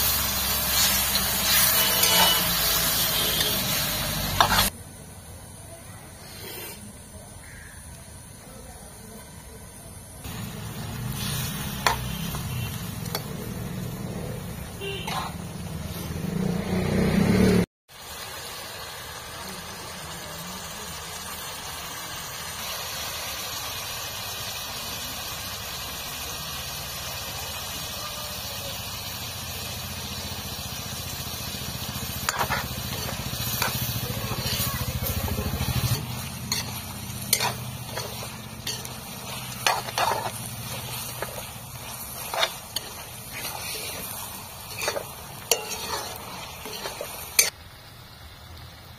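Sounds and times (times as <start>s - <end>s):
chicken sizzling in a wok: 0.0s - 48.9s.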